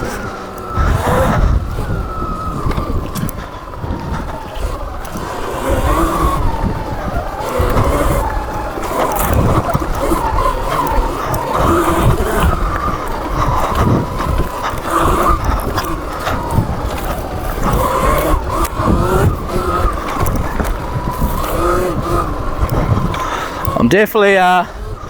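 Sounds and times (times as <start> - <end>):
electric motor whine: 0.0 - 23.9
wind rumble: 0.0 - 24.0, 24.6 - 25.0
tyres on dirt: 0.0 - 25.0.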